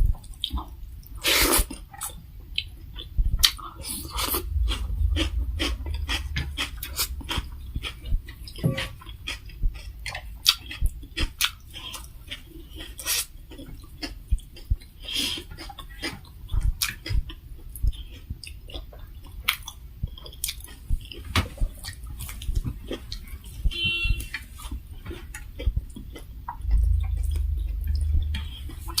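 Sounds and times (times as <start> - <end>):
chewing with wet mouth clicks: 0.1 - 29.0.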